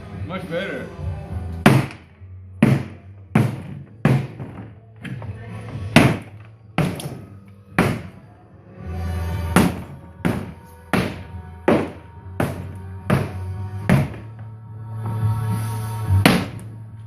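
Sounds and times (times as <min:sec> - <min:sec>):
sustained bass: 0:00.0 - 0:17.0.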